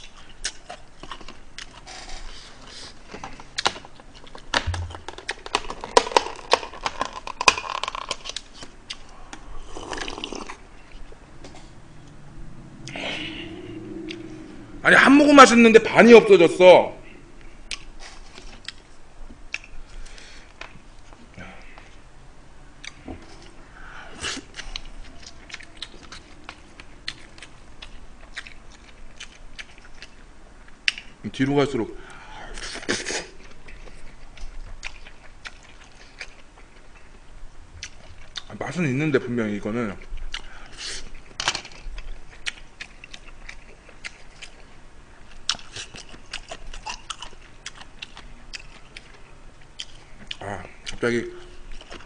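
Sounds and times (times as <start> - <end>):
man chewing food: 0.0 - 14.6, 17.2 - 22.1, 22.8 - 31.2, 32.1 - 38.6, 40.0 - 52.0.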